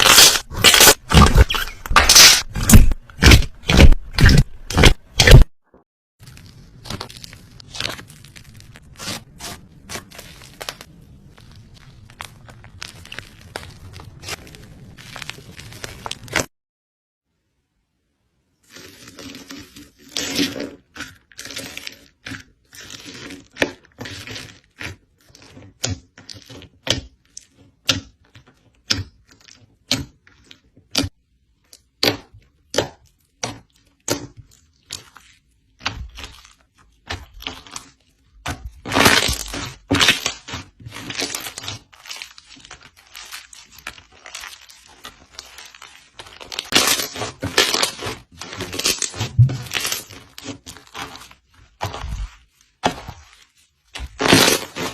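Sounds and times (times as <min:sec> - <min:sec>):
slime crackling and popping: 0:00.0 - 0:05.5, 0:06.2 - 0:16.5, 0:20.2 - 0:54.9.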